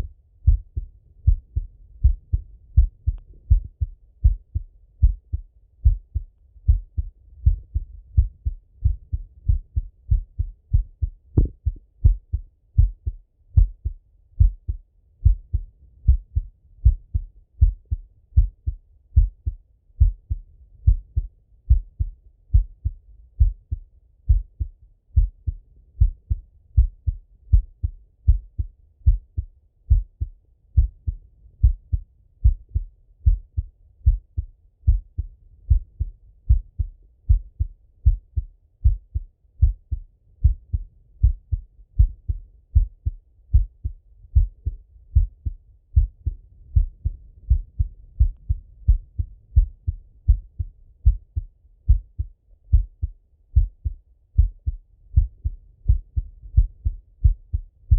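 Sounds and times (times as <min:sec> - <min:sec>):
heartbeat thumps: 0:00.0 - 0:57.9.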